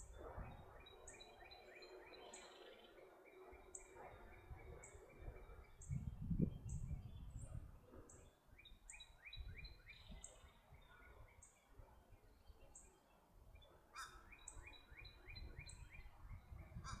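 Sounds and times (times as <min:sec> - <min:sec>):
bird singing downward-slurred notes: 0:00.0 - 0:13.2, 0:14.0 - 0:16.7.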